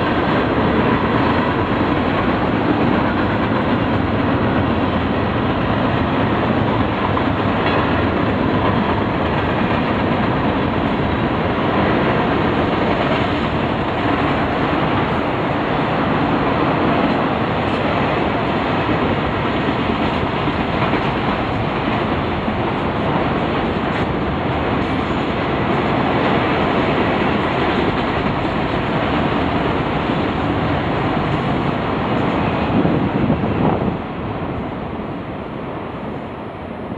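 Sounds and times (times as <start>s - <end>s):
train wheels running on rails: 0.0s - 36.9s.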